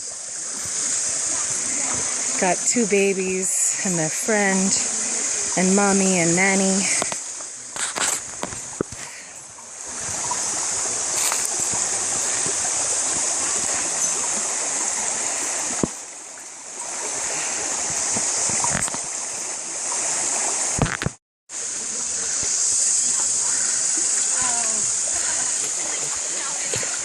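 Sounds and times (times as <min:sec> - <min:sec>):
stream water rushing: 0:00.0 - 0:27.0
water splashes: 0:00.0 - 0:27.0.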